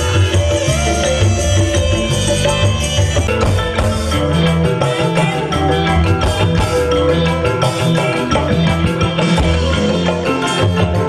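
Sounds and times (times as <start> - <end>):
repeating bass line: 0.0 - 11.0
steady drum beat: 0.0 - 11.0
upbeat live band music: 0.0 - 11.0.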